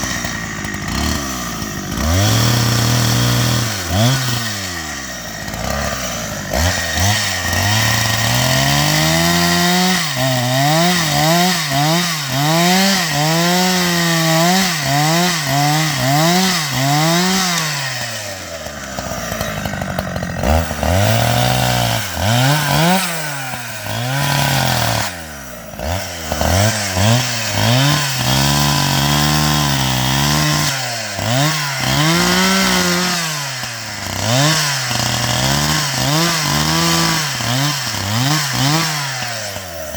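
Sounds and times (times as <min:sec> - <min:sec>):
chainsaw revving while cutting wood: 0:00.0 - 0:39.9.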